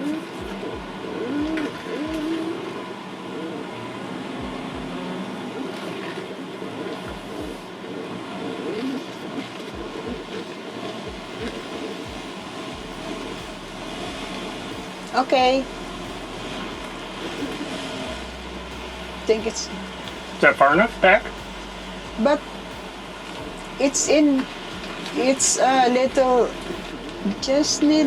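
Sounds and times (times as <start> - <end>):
vehicle engine running: 0.0 - 8.6, 9.5 - 28.0.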